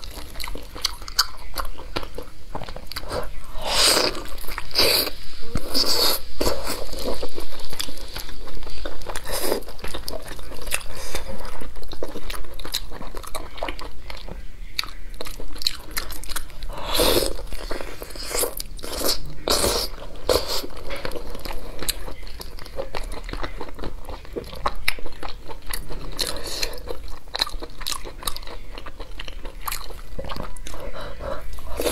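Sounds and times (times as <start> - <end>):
person chewing wetly: 0.0 - 31.9.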